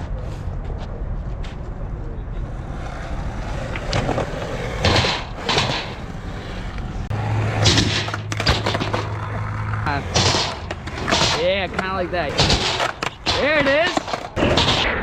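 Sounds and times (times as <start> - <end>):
skateboard wheels rolling: 0.3 - 15.0
low rolling hum: 0.4 - 14.4
skateboard scraping clacks: 2.4 - 15.0.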